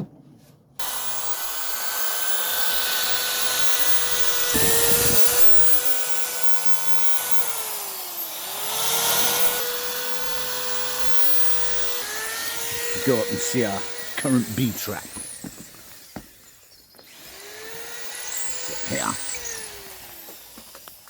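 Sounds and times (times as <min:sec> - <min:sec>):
electric motor whining: 0:00.8 - 0:21.0.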